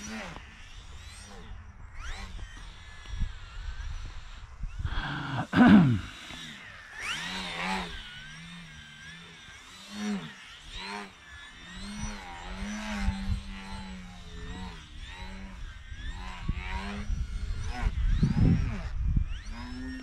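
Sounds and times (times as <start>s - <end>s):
model plane motor buzzing: 0.0s - 20.0s.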